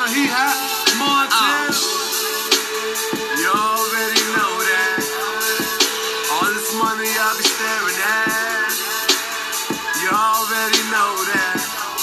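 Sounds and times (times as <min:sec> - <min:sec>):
hip hop backing track: 0:00.0 - 0:12.0.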